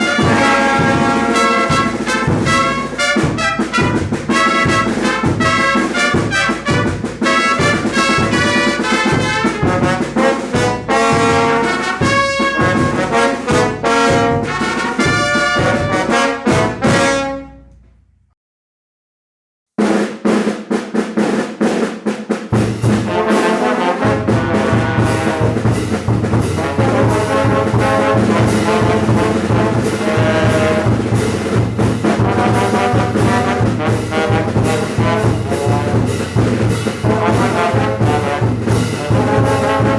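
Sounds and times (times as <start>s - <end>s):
drums: 0.0s - 17.3s, 19.8s - 39.9s
brass band playing: 0.0s - 17.7s, 22.5s - 39.9s
trumpets and trombones: 0.0s - 17.7s, 22.5s - 39.9s.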